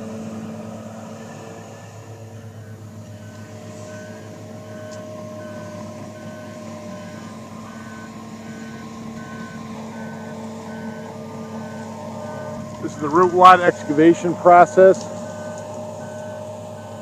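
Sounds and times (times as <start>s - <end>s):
excavator diesel engine running: 0.0s - 17.0s
alarm short beeps: 2.6s - 17.0s.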